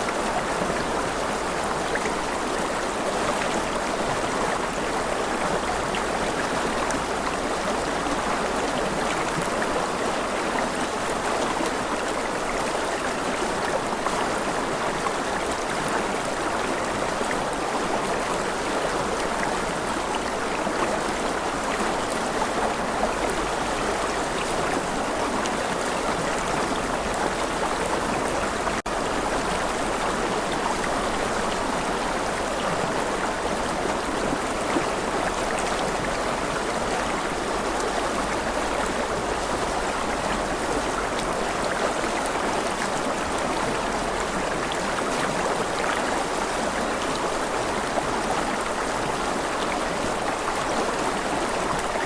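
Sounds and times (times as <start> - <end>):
stream water running: 0.0 - 52.0.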